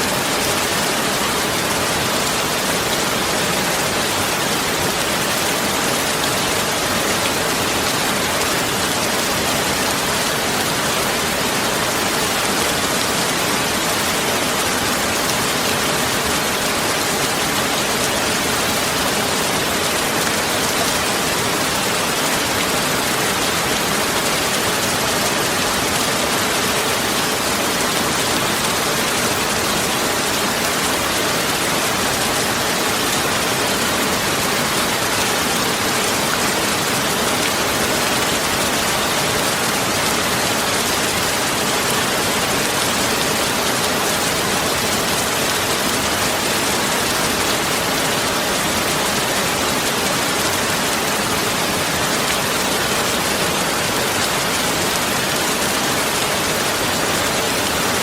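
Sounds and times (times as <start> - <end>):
steady rain-like rushing noise: 0.0 - 58.0.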